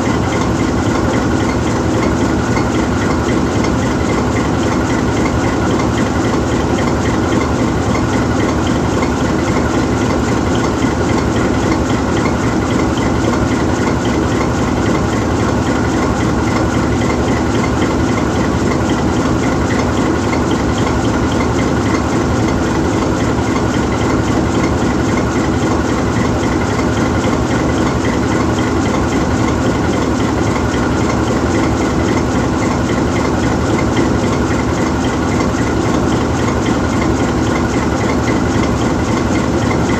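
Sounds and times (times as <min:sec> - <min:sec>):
diesel locomotive engine idling: 0:00.0 - 0:39.9.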